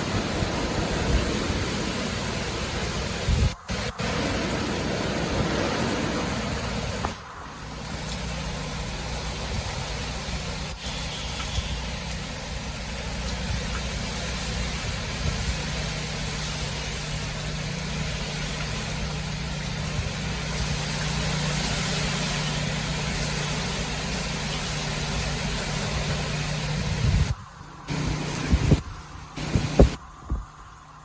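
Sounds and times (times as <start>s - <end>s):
even hiss: 0.0s - 31.0s.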